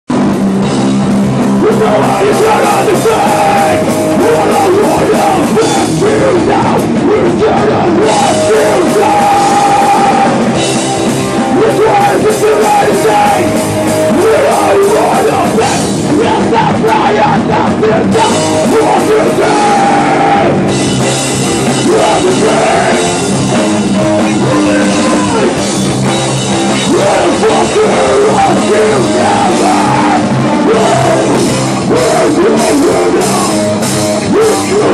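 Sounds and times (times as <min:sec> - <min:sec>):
drum kit: 0:00.1 - 0:34.9
hardcore band playing live: 0:00.1 - 0:34.9.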